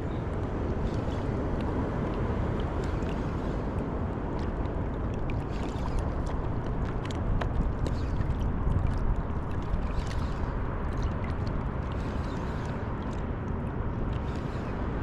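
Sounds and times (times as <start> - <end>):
small splashes and drips: 0.8 - 15.0
seawater sloshing and lapping: 2.0 - 15.0.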